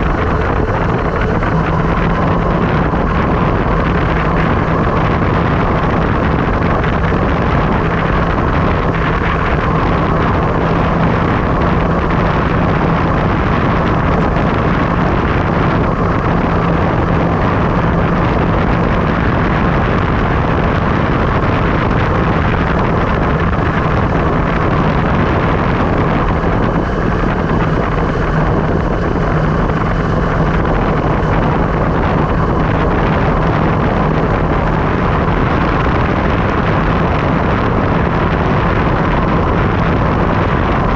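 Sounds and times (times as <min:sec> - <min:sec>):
constant low hum: 0:00.0 - 0:40.9
wind rushing over microphone: 0:00.0 - 0:40.9.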